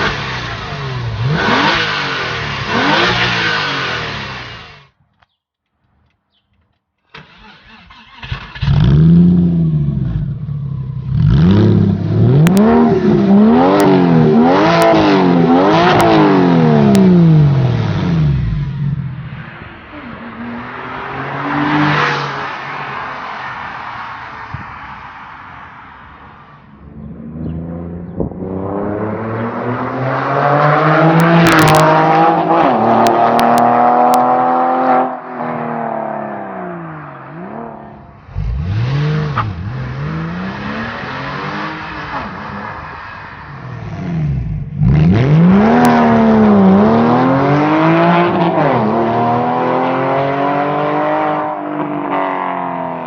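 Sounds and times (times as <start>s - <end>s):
car engine revving: 0.0s - 5.0s, 7.2s - 24.1s, 26.2s - 52.8s.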